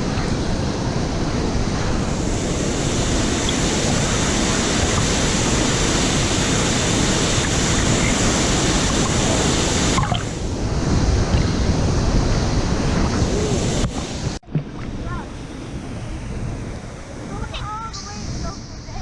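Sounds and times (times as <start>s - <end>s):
waterfall rushing: 0.0s - 14.4s, 15.0s - 19.0s.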